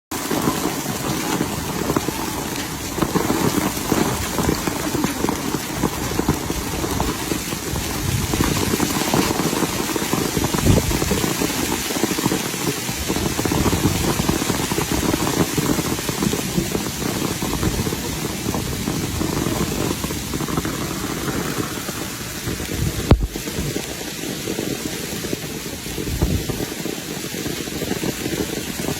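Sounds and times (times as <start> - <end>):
rain falling steadily: 0.1 - 28.9.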